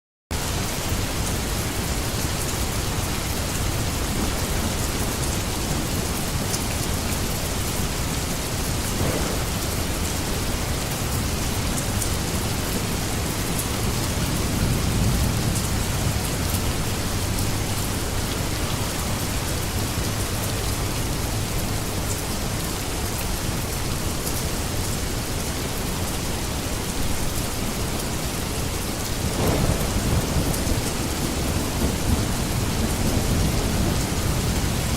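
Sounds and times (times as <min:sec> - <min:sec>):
heavy rain falling: 0:00.3 - 0:34.9.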